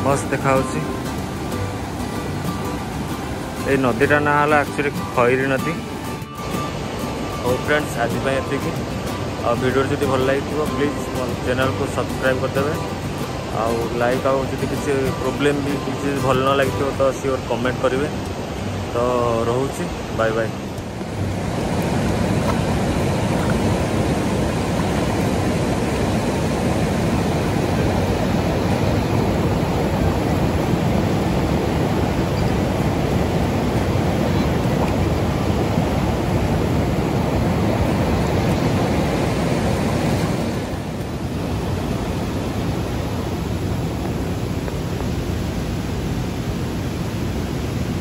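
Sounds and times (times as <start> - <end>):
river water rushing over rocks: 0.0 - 48.0.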